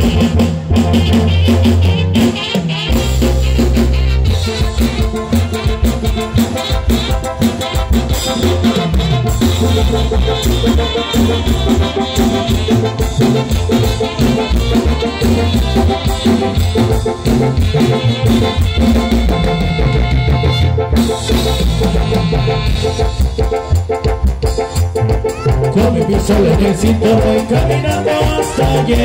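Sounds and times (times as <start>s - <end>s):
brass band music with drums: 0.0s - 29.0s.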